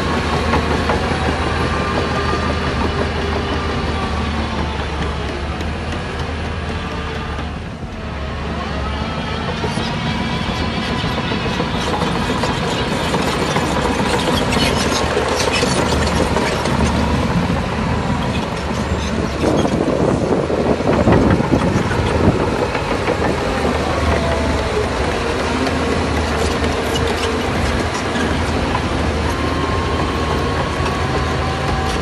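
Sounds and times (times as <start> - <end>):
bulldozer diesel engine running: 0.0 - 32.0
metallic clanking of steel tracks: 0.0 - 32.0.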